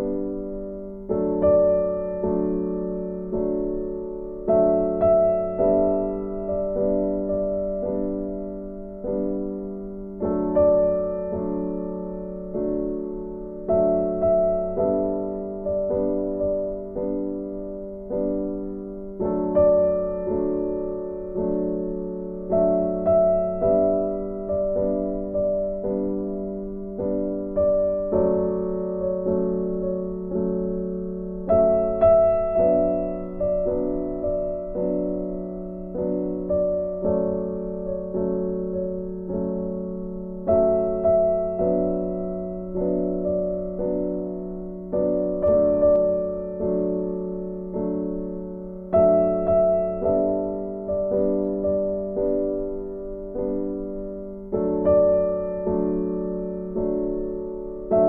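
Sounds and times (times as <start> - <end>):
soft piano chords: 0.0 - 58.0.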